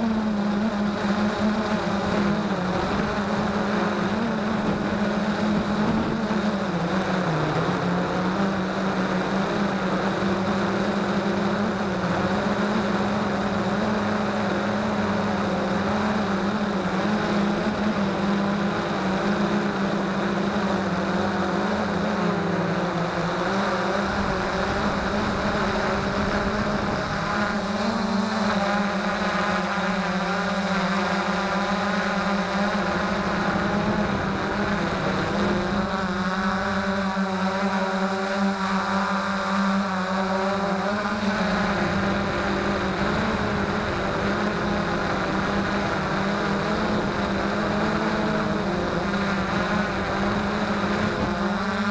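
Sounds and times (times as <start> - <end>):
drone motors humming and whining: 0.0 - 51.9.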